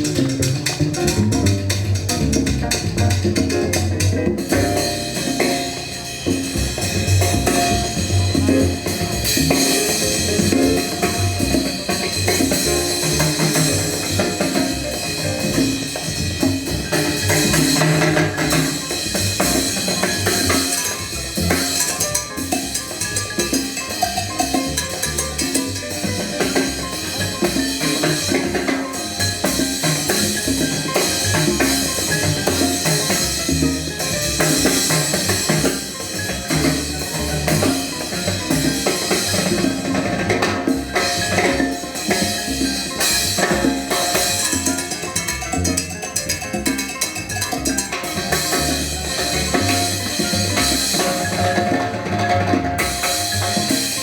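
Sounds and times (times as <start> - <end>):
drum kit and percussion rhythm: 0.0 - 54.0
latin jazz band playing: 0.0 - 54.0.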